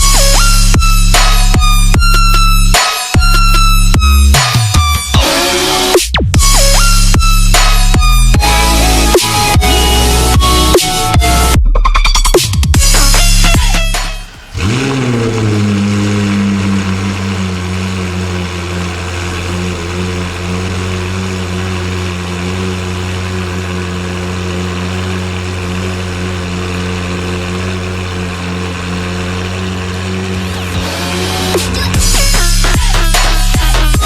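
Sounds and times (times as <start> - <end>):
car engine revving and idling: 0.0 - 34.0.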